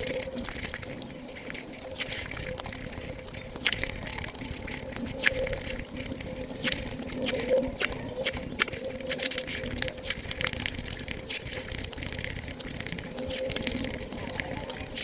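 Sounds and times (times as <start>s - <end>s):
sped-up chewing clicks: 0.0s - 15.0s.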